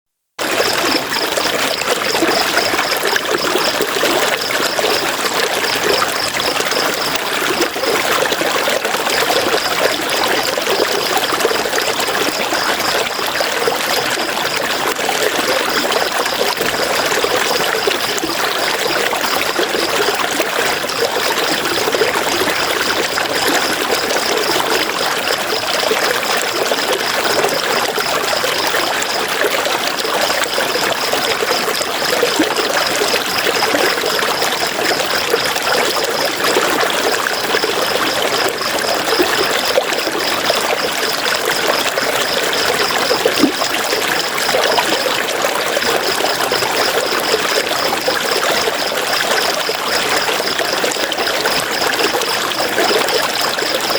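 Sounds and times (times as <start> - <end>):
river water flowing over stones: 0.4 - 53.9.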